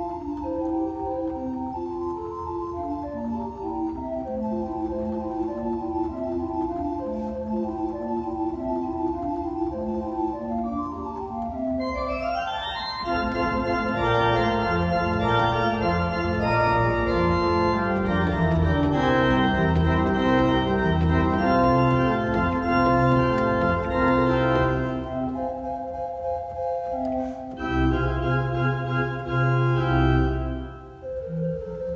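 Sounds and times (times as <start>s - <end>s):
organ pedal bass line: 0.0s - 31.9s
organ playing sustained chords: 0.0s - 31.9s.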